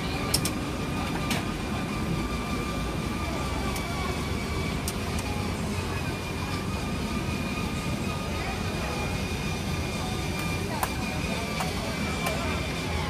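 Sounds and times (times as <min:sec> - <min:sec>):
faint background voices: 0:00.0 - 0:13.0
sausage grill rumble and hiss: 0:00.0 - 0:13.0.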